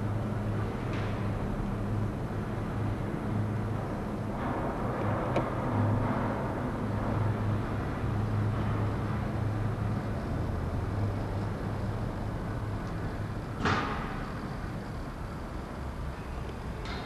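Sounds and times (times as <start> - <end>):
cable car machinery humming: 0.0 - 17.0.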